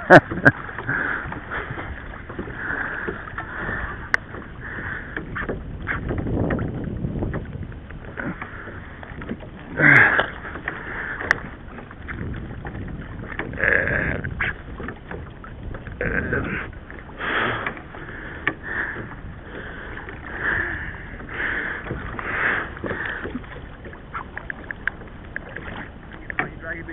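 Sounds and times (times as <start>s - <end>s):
steady water wash: 0.0s - 26.9s
water slapping against kayak hull: 0.0s - 26.9s.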